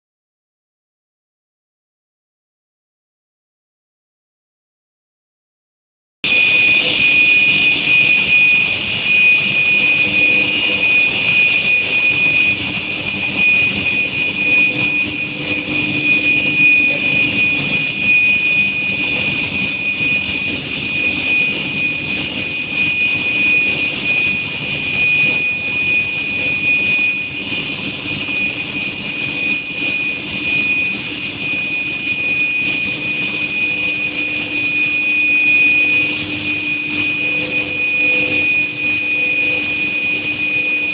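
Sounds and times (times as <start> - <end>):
low hum: 6.2 - 40.9
machine high-pitched whine: 6.2 - 40.9.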